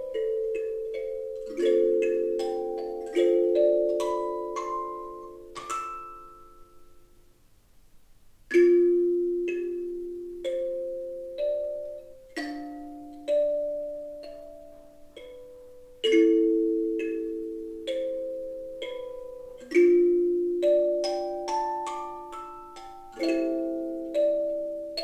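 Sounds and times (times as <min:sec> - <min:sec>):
kalimba played slowly: 0:00.0 - 0:07.2, 0:08.5 - 0:25.0.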